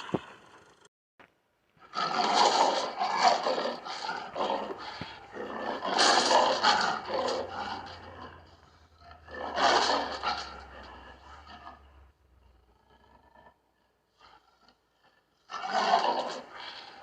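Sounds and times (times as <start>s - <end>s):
leopard growling: 0.0s - 0.9s, 1.8s - 17.0s.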